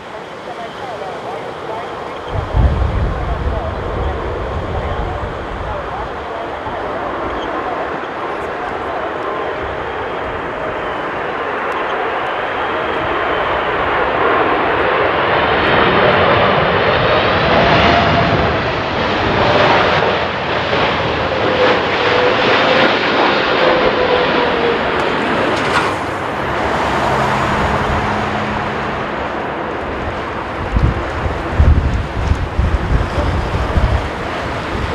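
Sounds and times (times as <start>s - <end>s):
jet airliner flying past: 0.0s - 34.9s.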